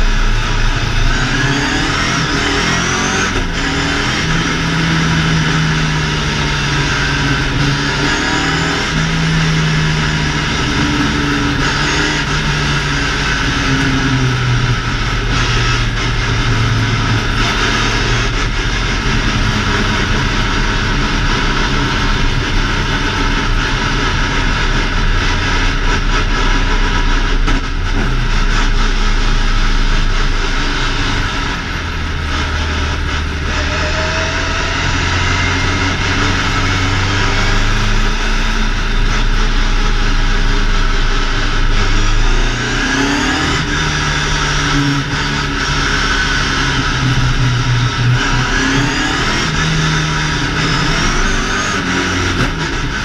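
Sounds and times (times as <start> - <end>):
car engine heard from inside cabin: 0.0 - 53.0.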